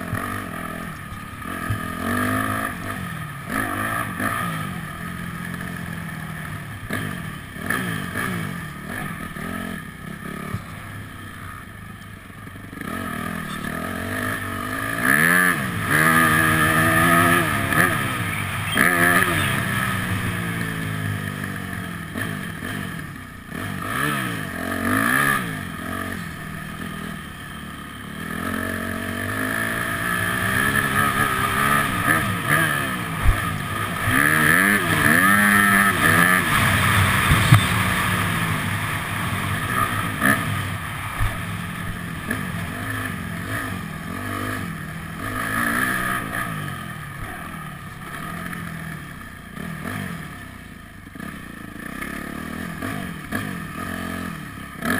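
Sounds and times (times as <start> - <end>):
dirt bike engine revving: 0.0 - 11.8, 12.4 - 54.9.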